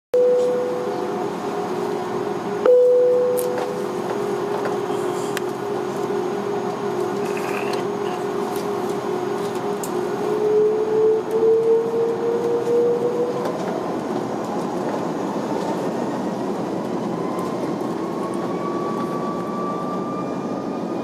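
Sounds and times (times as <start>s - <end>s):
jet engines idling: 0.4s - 19.6s.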